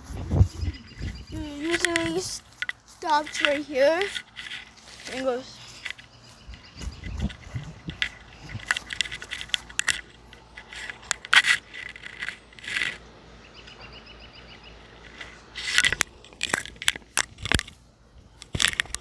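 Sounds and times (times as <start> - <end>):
rubbing and scraping handling noise: 0.0 - 13.2, 14.8 - 19.0
clicks and rustles: 0.0 - 13.9, 14.8 - 19.0.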